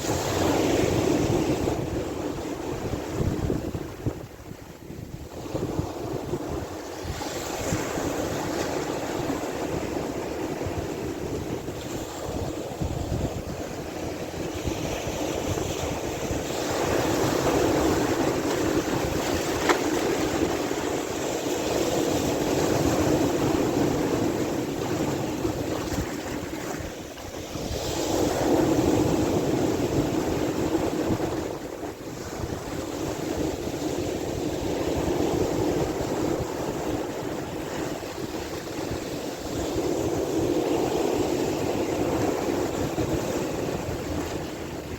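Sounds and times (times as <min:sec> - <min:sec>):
sea waves washing in: 0:00.0 - 0:44.9
wind buffeting microphone: 0:00.0 - 0:44.9.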